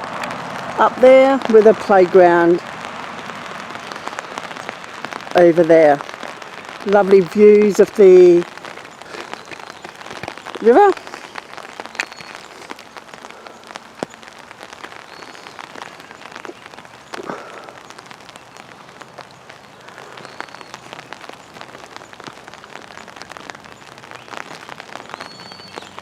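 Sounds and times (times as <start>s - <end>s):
drizzle pattering on an umbrella: 0.0s - 26.0s.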